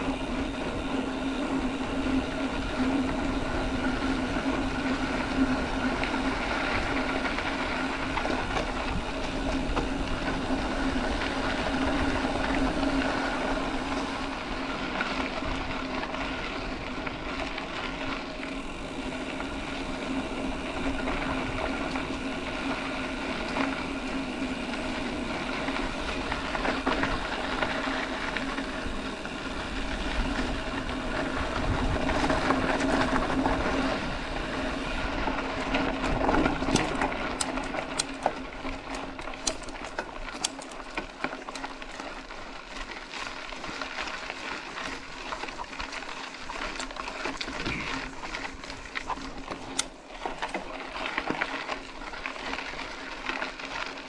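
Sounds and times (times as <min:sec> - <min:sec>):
bike hum over low rumble: 0:00.0 - 0:54.0
bike rattling clicks: 0:00.0 - 0:54.0.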